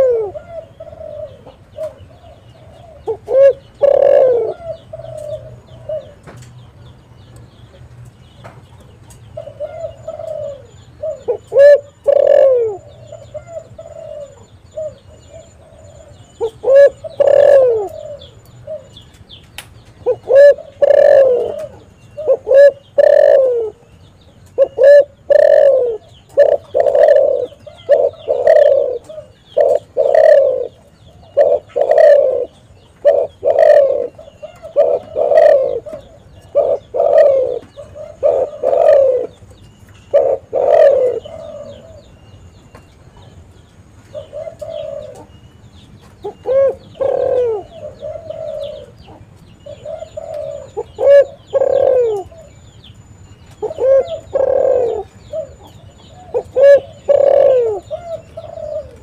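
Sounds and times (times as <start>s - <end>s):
dove cooing: 0.0s - 6.5s, 9.1s - 59.0s.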